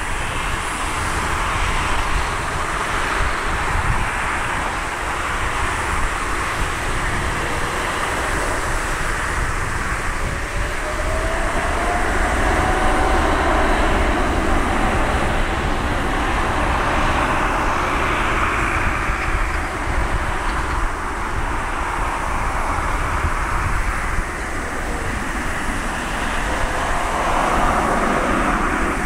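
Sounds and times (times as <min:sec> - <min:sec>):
jet engines running: 0:00.0 - 0:29.0
turbine whine rising: 0:04.5 - 0:29.0.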